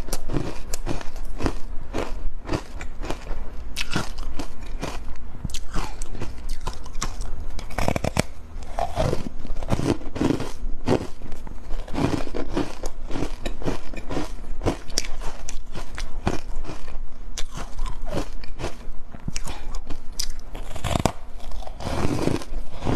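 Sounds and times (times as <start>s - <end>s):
person chewing crunchy food: 0.0s - 22.9s.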